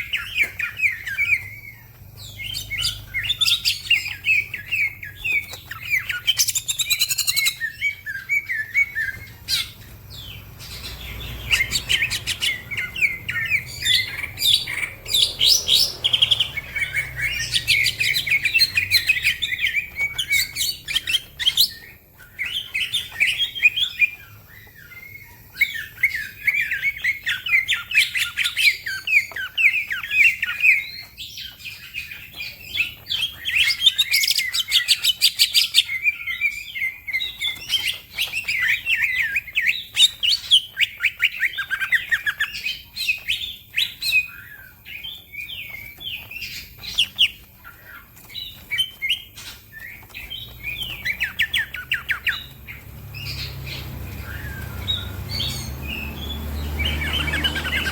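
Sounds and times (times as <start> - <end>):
bird chirps and trills: 0.0 - 57.9.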